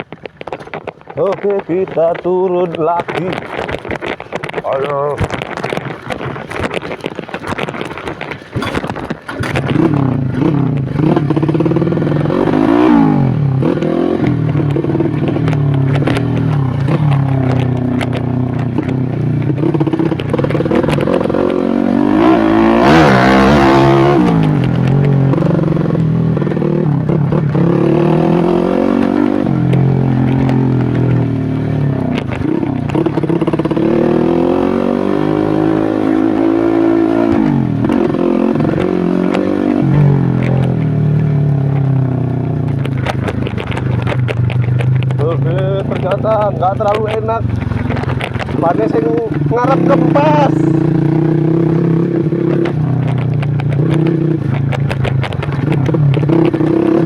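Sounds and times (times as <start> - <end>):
bike clattering over stones: 0.0 - 57.0
motorcycle engine revving: 0.0 - 57.0.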